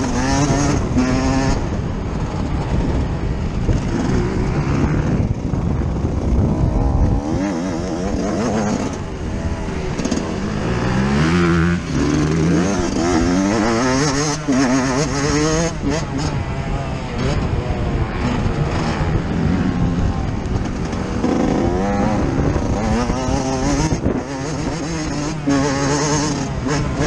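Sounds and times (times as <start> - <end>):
motocross engine revving hard: 0.0 - 1.8, 6.1 - 27.0.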